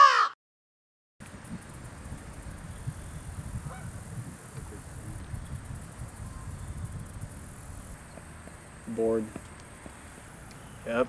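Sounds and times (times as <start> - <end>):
insect chirring: 1.2 - 11.0
low rumble of wind or traffic: 1.2 - 11.0.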